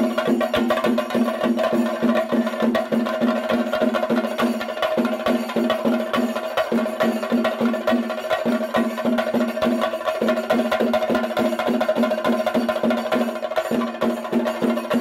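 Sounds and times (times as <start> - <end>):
group of drums playing fast: 0.0 - 15.0.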